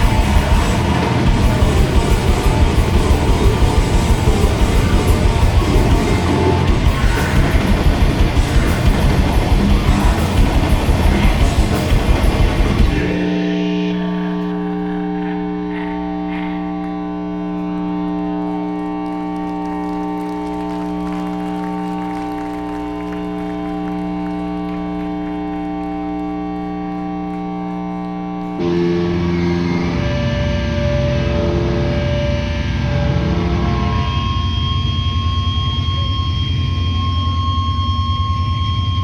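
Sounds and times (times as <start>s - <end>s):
band playing distorted: 0.0s - 26.9s, 28.3s - 35.2s
amplified band drone: 0.0s - 39.0s.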